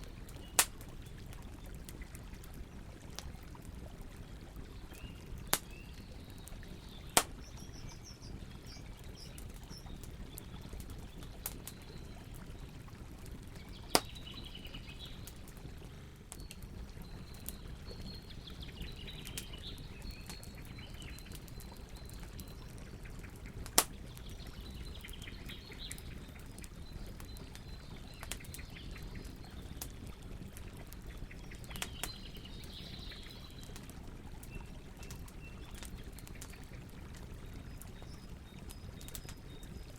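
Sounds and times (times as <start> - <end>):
campfire hissing and crackling: 0.0 - 39.9
small birds chirping: 0.0 - 39.9.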